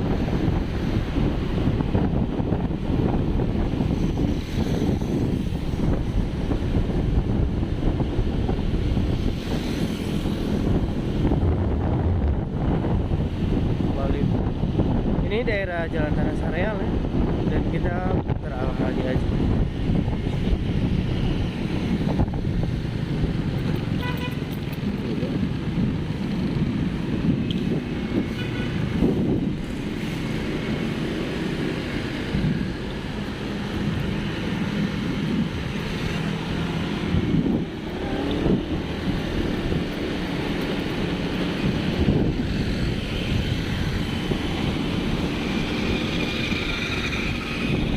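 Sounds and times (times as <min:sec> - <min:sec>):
low rumble of road noise: 0:00.0 - 0:47.9
wind buffeting microphone: 0:00.0 - 0:47.9.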